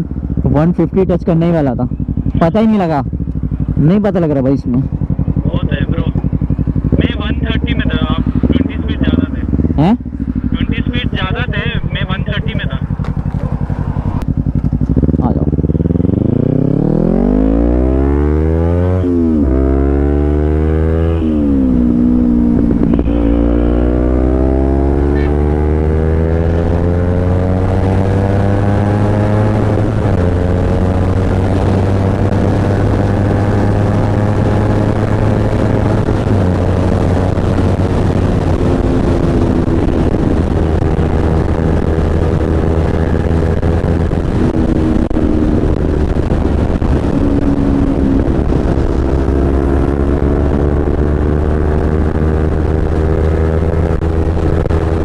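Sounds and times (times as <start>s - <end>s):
motorcycle engine at full throttle: 0.0s - 55.0s
wind rushing: 6.3s - 55.0s.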